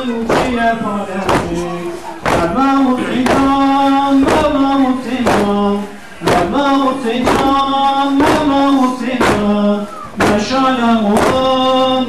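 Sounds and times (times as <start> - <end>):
man chanting: 0.0 - 12.0
regular thudding beat: 0.0 - 12.0.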